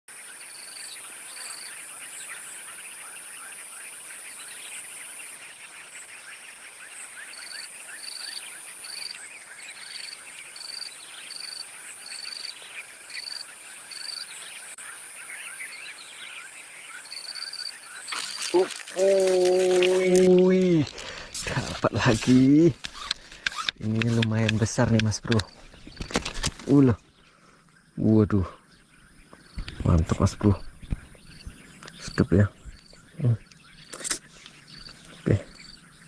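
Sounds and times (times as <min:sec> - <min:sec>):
insects chirring: 0:00.1 - 0:36.0.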